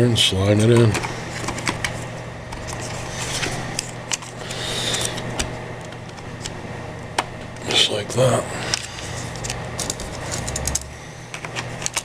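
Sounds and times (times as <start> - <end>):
low steady hum: 0.0 - 12.0
hard drive clicking and scraping: 0.6 - 6.6, 7.2 - 12.0.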